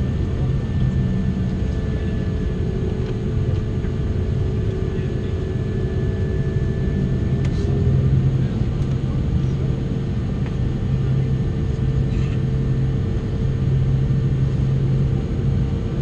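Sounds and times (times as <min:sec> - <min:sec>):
faint steady whine: 0:00.0 - 0:16.0
jet engines idling rumble: 0:00.0 - 0:16.0.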